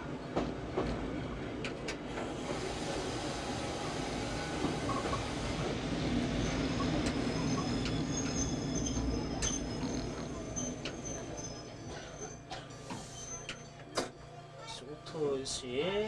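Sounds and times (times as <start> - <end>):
train wheels rumbling on rail: 0.0 - 13.6.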